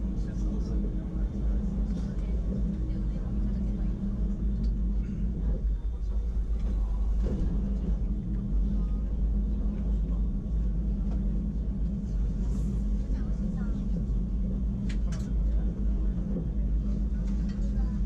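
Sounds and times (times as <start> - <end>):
electric train rumbling uphill: 0.0 - 18.0.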